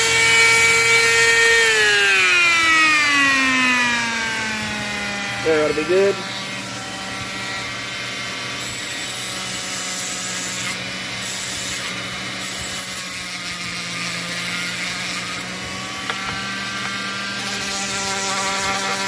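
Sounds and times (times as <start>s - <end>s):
rotary tool grinding metal: 0.0s - 19.0s.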